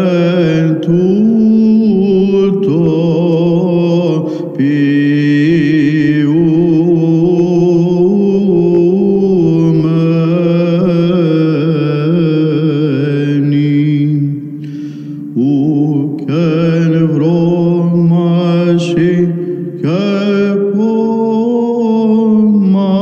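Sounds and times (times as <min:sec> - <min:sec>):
low held drone note: 0:00.0 - 0:22.6.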